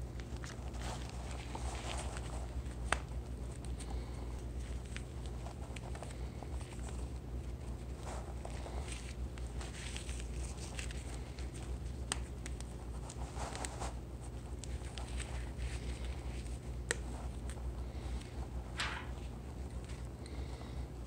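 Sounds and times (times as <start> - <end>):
face mask rustling: 0.0 - 20.1.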